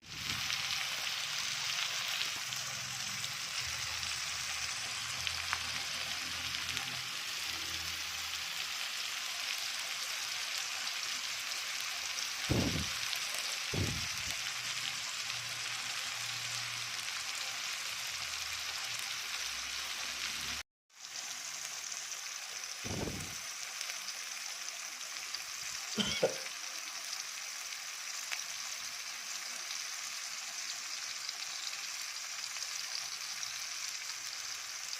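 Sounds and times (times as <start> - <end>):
food sizzling in hot oil: 0.0 - 34.9.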